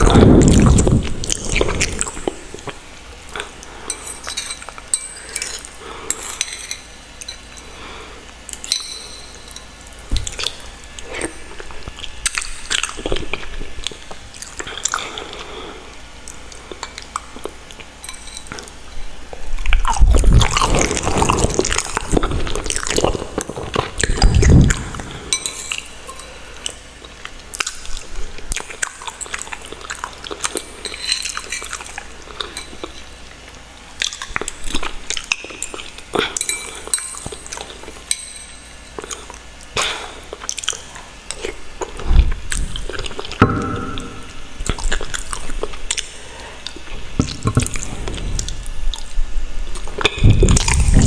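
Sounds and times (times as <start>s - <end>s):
chewing and wet mouth sounds: 0.0s - 51.0s.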